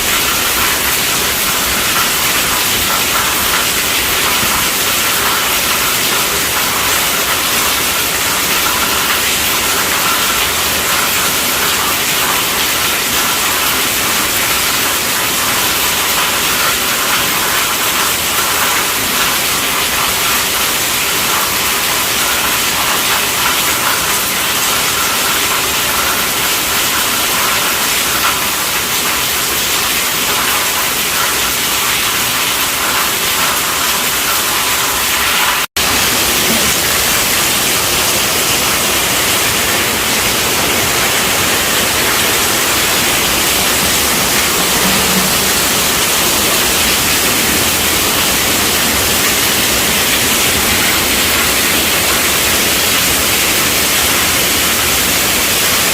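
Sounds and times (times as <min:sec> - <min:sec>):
rain pattering on a tent roof: 0:00.0 - 0:55.9.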